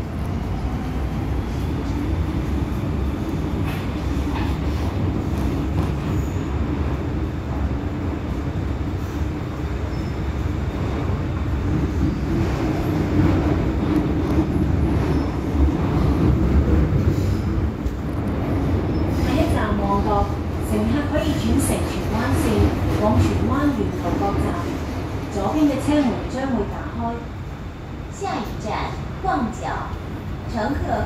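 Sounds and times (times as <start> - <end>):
metro train wheels rumbling on rail: 0.0 - 31.0.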